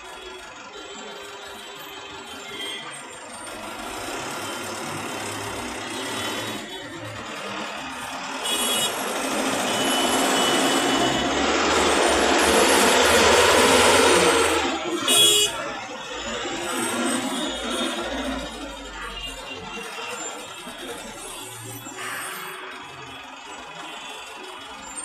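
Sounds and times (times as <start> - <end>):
road traffic rush: 0.0 - 25.0.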